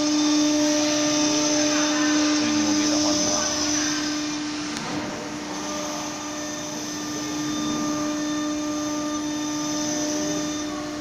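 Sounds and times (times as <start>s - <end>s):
machine hum: 0.0s - 11.0s
wood router spindle whine: 0.0s - 11.0s.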